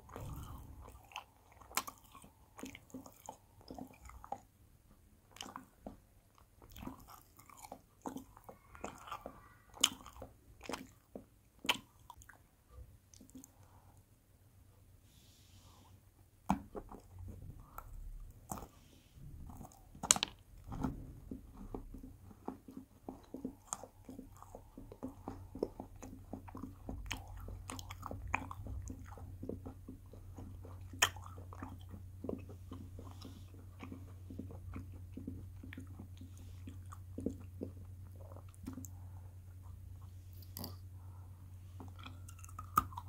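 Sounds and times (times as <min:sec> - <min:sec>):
chewing crunchy candy: 0:00.0 - 0:04.6, 0:05.2 - 0:12.5, 0:16.6 - 0:43.0.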